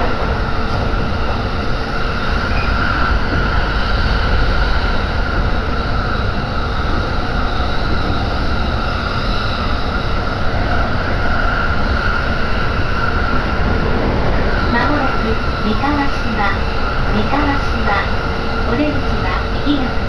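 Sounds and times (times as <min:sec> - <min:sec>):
constant high hum: 0:00.0 - 0:20.0
train wheels rumbling on rail: 0:00.0 - 0:20.0.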